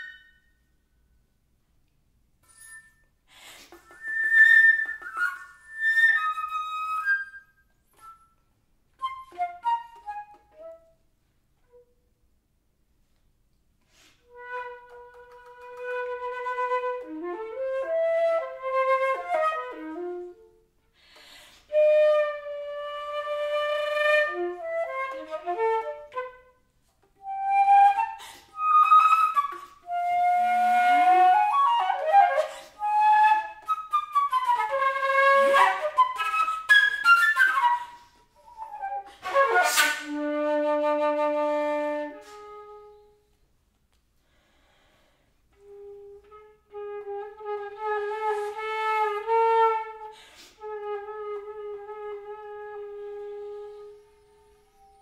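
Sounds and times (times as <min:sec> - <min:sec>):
solo flute playing: 0:00.0 - 0:00.8, 0:03.8 - 0:11.0, 0:14.2 - 0:20.8, 0:21.7 - 0:43.4, 0:45.6 - 0:55.0.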